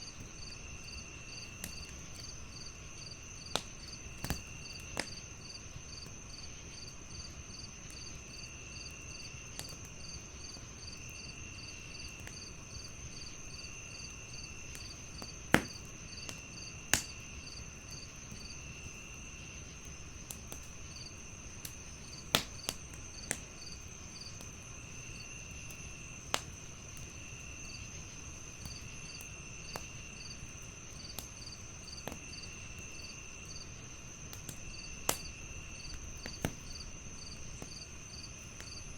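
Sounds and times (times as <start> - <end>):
crickets chirping: 0.0 - 38.9
wood fire crackling and popping: 0.1 - 38.9.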